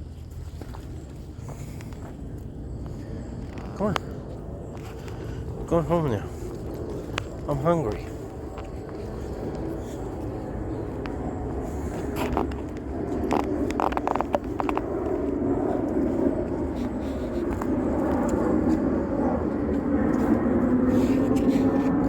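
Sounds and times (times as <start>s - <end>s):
engine rumble: 0.0s - 22.0s.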